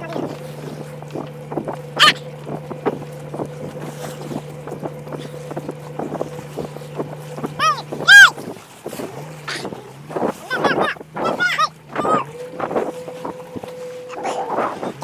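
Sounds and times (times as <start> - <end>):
boat engine running: 0.0 - 15.0
wind noise: 0.0 - 15.0.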